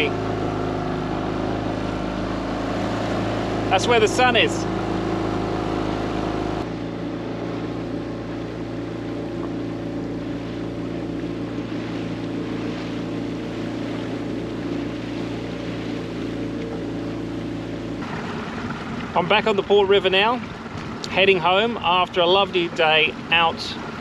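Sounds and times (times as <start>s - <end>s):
outboard motor running: 0.0s - 24.0s
water noise: 0.0s - 24.0s.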